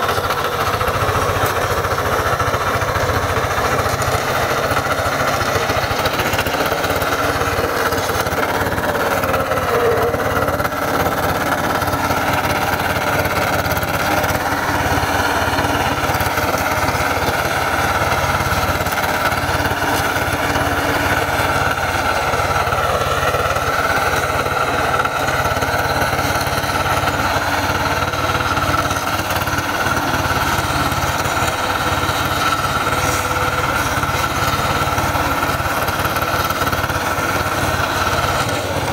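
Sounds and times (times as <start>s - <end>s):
diesel engine running under load: 0.0s - 38.9s
tiller chopping soil: 0.0s - 38.9s.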